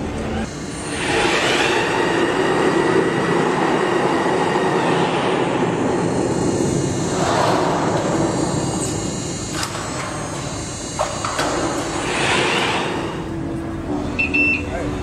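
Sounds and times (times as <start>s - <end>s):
bicycle parking machine running: 0.0s - 15.0s.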